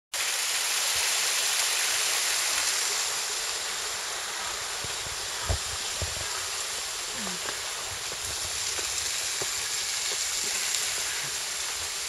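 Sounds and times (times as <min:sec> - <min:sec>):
waterfall rushing onto rocks: 0:00.2 - 0:12.0.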